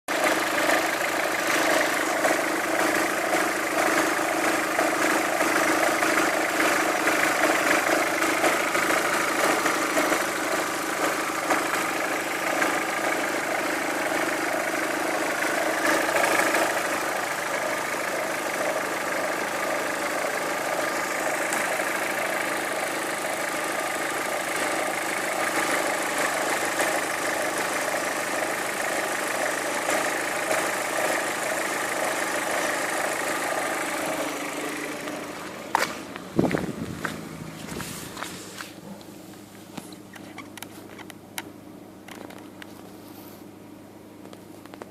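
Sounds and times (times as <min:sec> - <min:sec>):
engine idling: 0:00.1 - 0:44.9.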